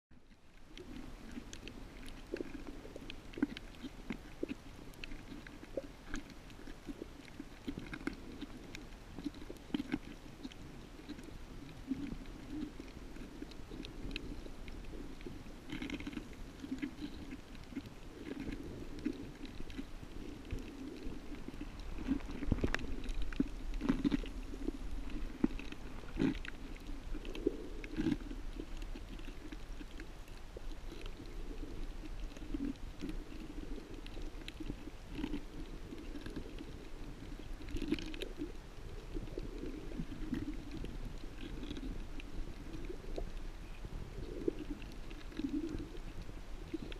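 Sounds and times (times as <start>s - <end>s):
muffled underwater gurgling rumble: 0.1s - 46.9s.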